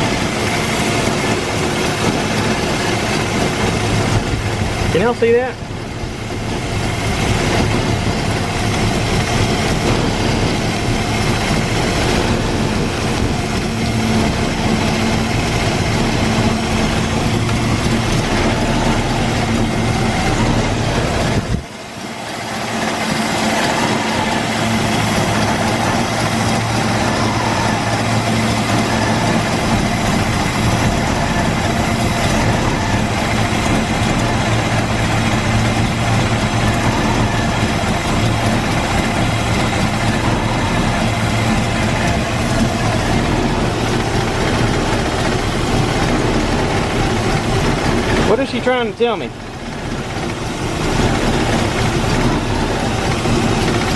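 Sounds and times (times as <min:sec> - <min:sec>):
car engine idling: 0:00.0 - 0:53.9.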